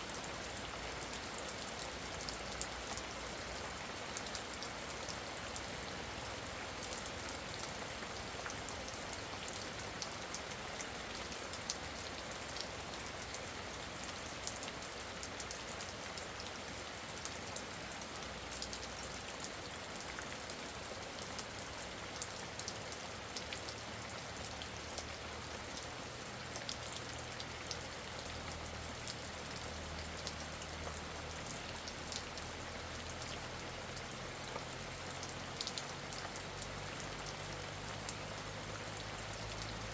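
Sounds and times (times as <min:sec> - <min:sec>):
rain drops ticking on a surface: 0:00.0 - 0:39.9.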